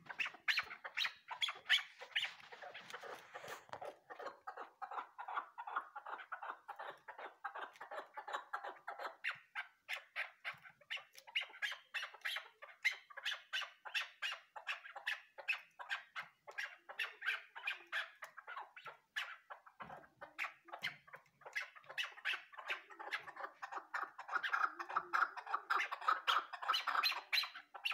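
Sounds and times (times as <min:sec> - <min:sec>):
partridge clucking calls: 0:00.0 - 0:27.9.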